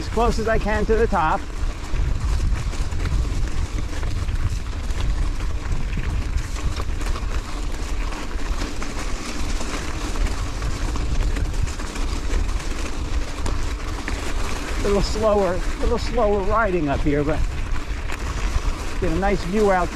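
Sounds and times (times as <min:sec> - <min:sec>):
bike rattling: 0:00.0 - 0:19.9
bike tyres rolling over gravel: 0:00.0 - 0:19.9
wind buffeting microphone: 0:00.0 - 0:19.9.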